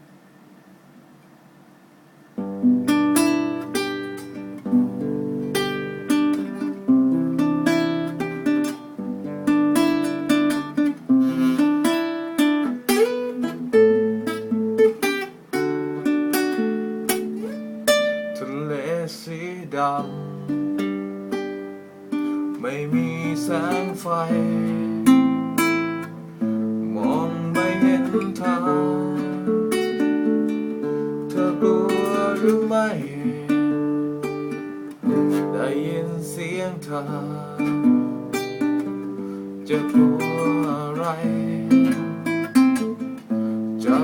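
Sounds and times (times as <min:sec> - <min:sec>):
faint hum: 0:00.0 - 0:44.0
plucked acoustic guitar: 0:02.4 - 0:44.0.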